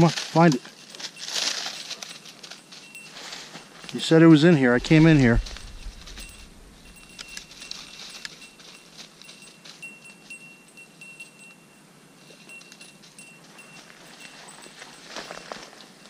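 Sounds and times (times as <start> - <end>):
rustles of brush underfoot: 0.0 - 10.6, 12.2 - 16.0
small bell ringing faintly: 0.0 - 16.0.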